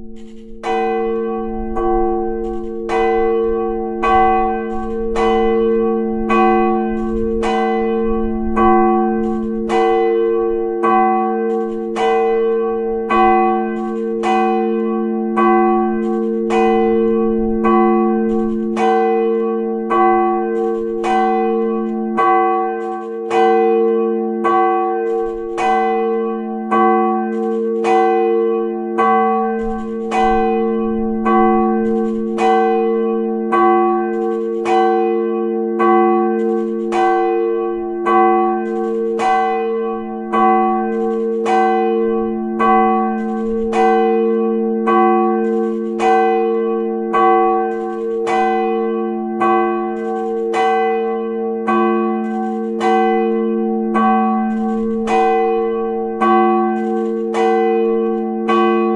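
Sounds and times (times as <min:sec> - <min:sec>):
large church bell ringing: 0:00.0 - 0:58.9.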